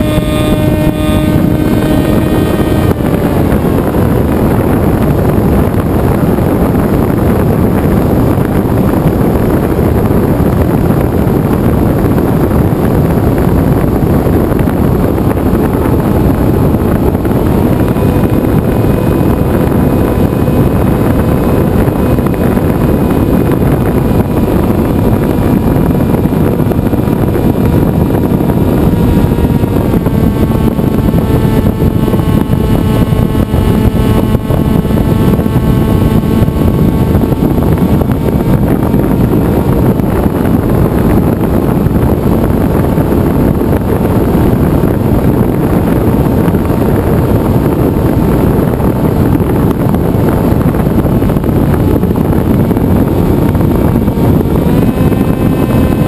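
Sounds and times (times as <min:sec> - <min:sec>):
motor and propeller whine: 0:00.0 - 0:56.0
wind rush over camera: 0:00.0 - 0:56.0.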